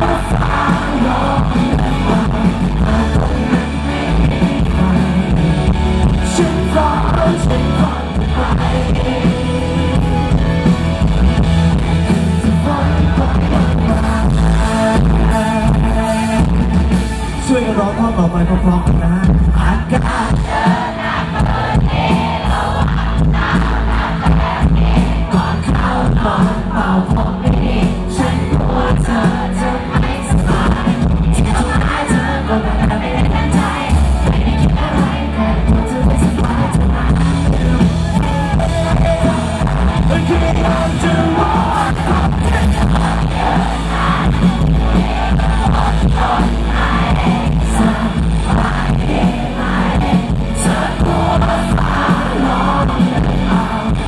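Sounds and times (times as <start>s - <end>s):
man singing into microphone: 0.0s - 10.4s, 12.1s - 21.9s, 23.0s - 44.5s, 45.2s - 54.0s
pop-rock band playing: 0.0s - 54.0s.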